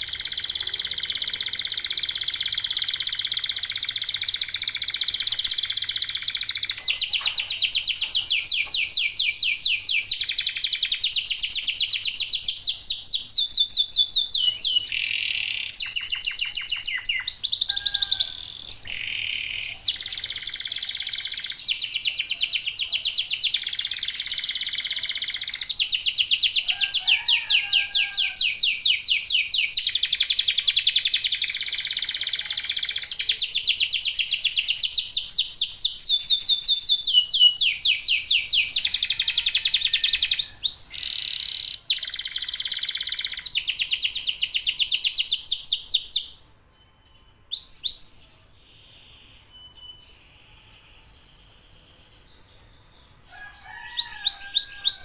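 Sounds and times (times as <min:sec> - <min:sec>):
canaries singing fast trills: 0:00.0 - 0:55.0.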